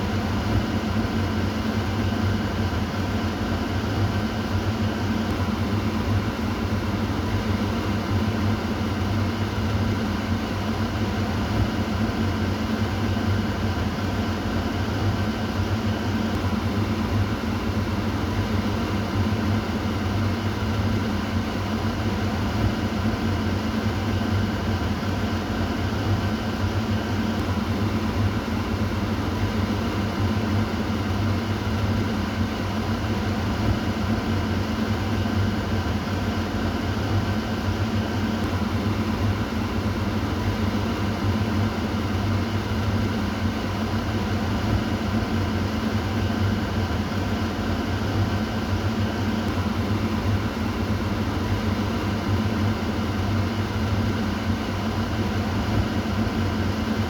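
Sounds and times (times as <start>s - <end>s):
exhaust fan rushing air: 0.0s - 57.0s.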